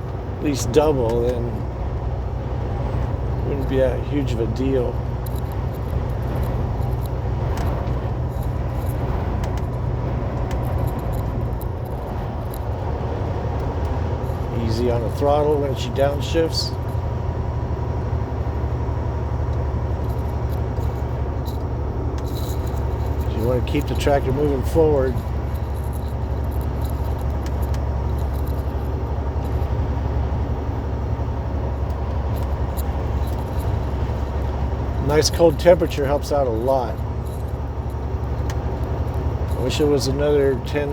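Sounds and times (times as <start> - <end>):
light clicks and rattles: 0.0 - 17.1, 18.4 - 40.9
diesel engine drone: 0.0 - 40.9
road rumble: 0.0 - 40.9.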